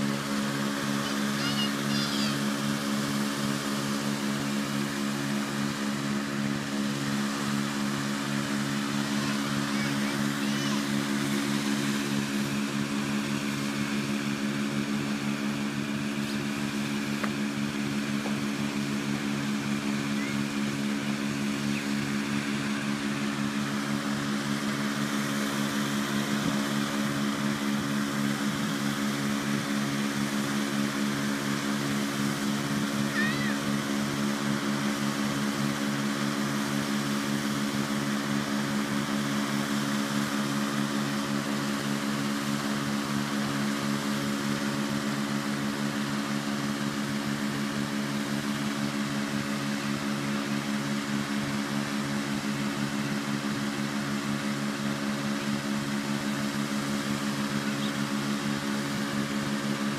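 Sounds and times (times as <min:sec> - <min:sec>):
inflator fan running: 0:00.0 - 0:59.9.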